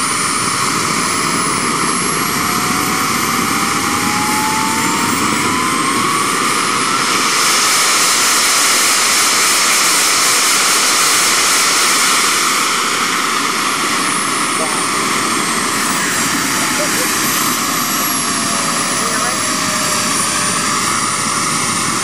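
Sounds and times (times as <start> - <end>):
model jet engine whining: 0.0 - 22.0.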